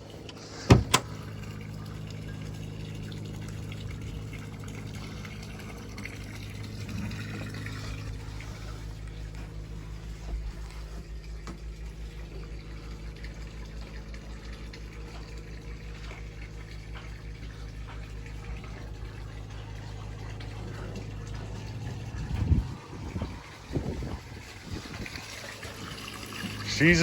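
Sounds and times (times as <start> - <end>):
low pulsing mechanical hum: 0.0 - 27.0.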